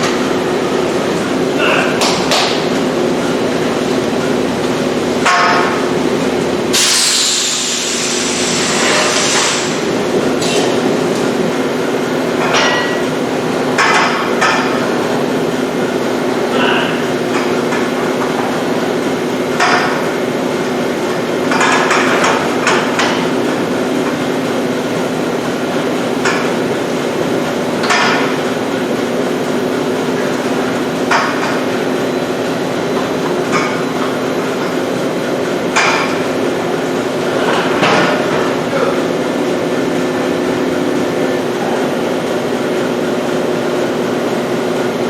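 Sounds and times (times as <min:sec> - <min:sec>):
milking machine hum: 0:00.0 - 0:45.0.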